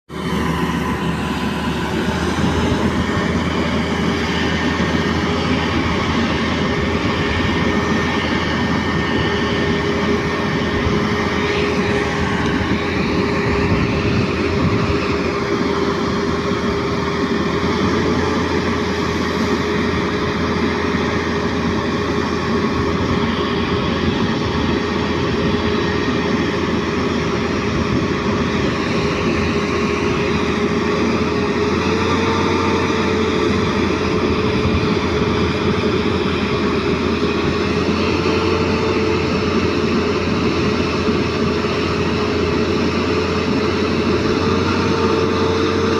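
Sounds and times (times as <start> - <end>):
diesel truck engine whining: 0.0 - 45.9.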